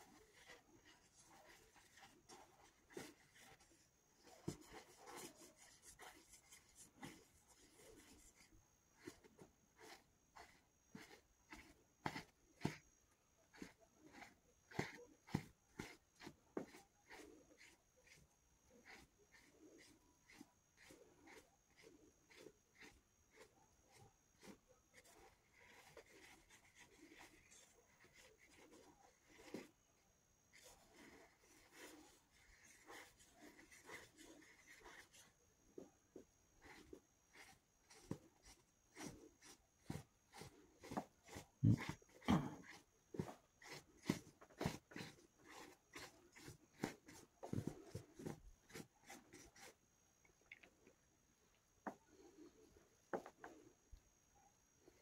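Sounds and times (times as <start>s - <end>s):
marker scratching on fabric: 0.0s - 49.8s.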